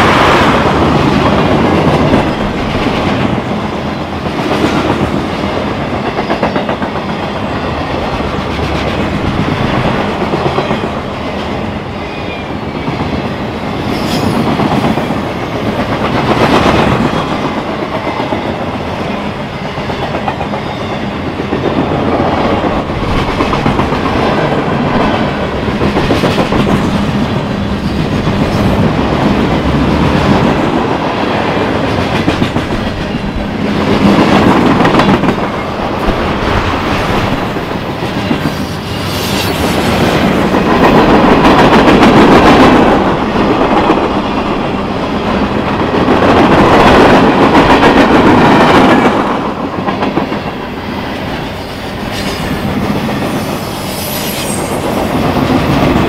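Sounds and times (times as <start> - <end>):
train wheels clacking over rails: 0.0 - 56.0.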